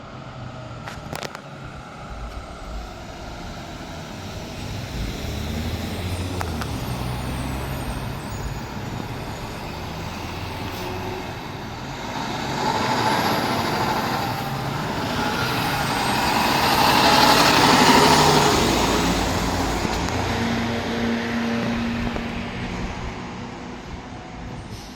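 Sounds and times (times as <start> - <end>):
heavy truck engine rumbling: 0.0 - 24.9
vehicle driving past: 1.7 - 23.5.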